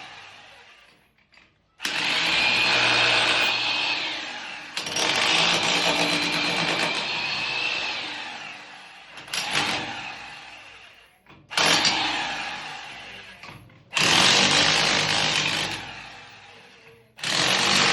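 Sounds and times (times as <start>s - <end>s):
power tool running in bursts: 0.0s - 1.0s, 1.8s - 17.9s.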